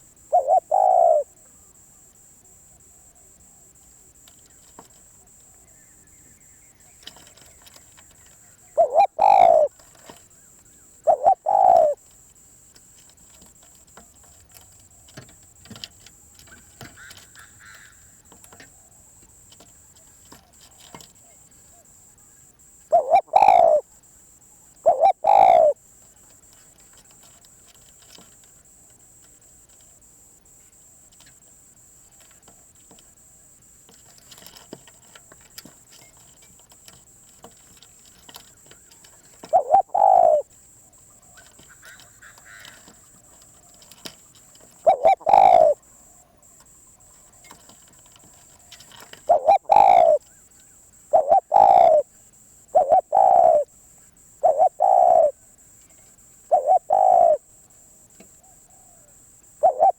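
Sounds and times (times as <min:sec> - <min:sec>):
dove cooing: 0:00.0 - 0:01.6, 0:06.6 - 0:12.2, 0:13.0 - 0:29.9, 0:30.5 - 0:57.6, 0:58.2 - 0:59.9.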